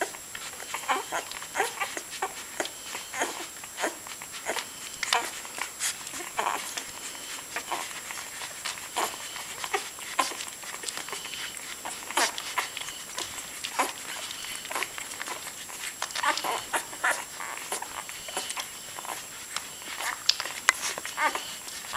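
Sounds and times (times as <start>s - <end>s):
puppies squeaking: 0.0s - 21.9s
wet suckling noises: 0.0s - 21.9s.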